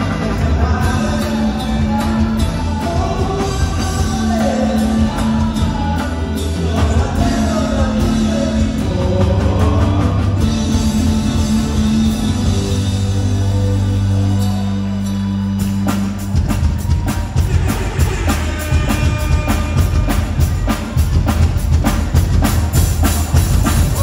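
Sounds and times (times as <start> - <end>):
person singing: 0.0 - 15.2, 16.8 - 21.5
bass guitar: 0.0 - 24.0
drums: 0.0 - 24.0
electric guitars: 0.0 - 24.0.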